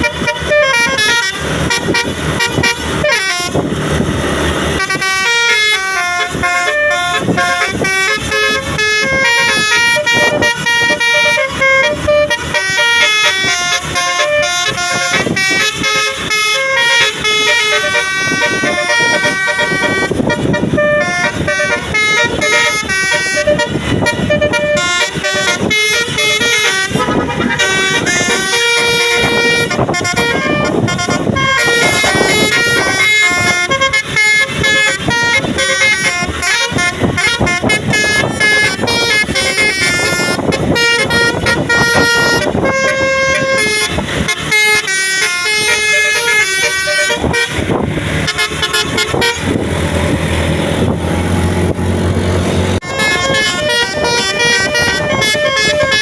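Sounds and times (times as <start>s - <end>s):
multi-tone bus horn tune: 0.0s - 56.0s.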